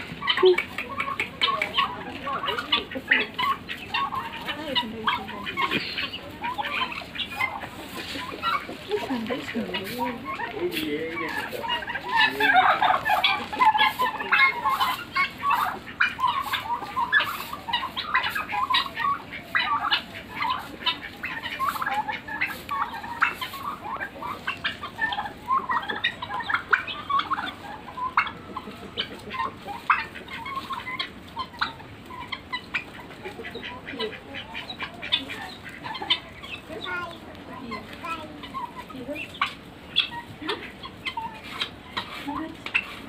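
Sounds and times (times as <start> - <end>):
chickens and guineafowl calling: 0.0 - 43.0.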